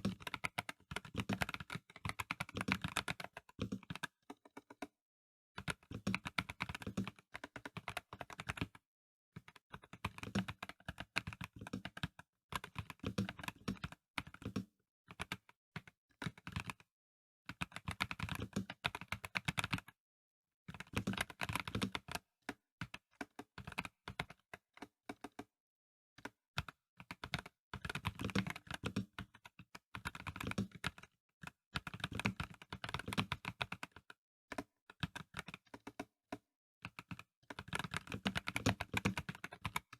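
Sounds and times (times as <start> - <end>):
typing on mechanical keyboard: 0.0 - 5.0, 5.6 - 8.8, 9.4 - 16.9, 17.5 - 20.0, 20.7 - 25.5, 26.2 - 39.9.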